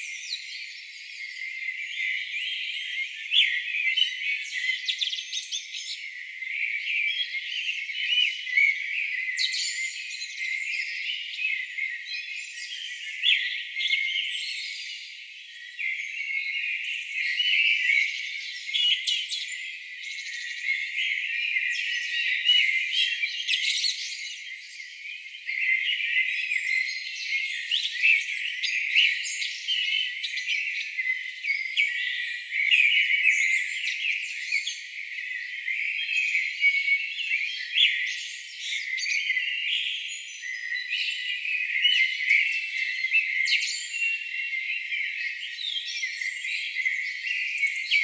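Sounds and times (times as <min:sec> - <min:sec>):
songbirds singing and calling: 0:00.0 - 0:48.0.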